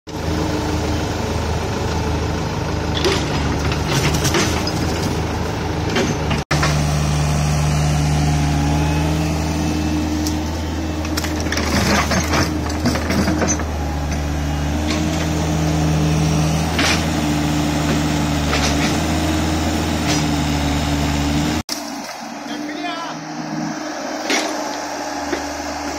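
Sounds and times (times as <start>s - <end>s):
diesel engine running: 0.1s - 25.9s.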